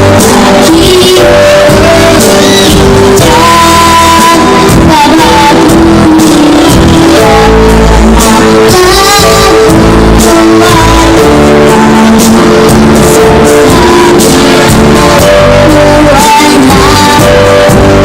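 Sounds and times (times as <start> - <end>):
amplified backing music: 0.0 - 18.0
child singing: 0.0 - 18.0.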